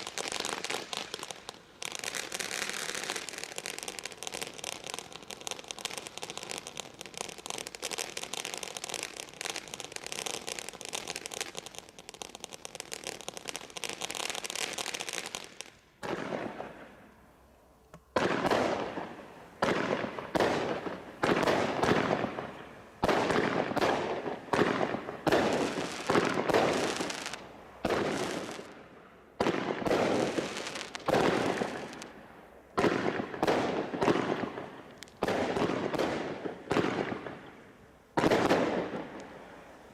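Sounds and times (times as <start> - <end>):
firework crackling: 0.0 - 17.4, 18.1 - 39.9.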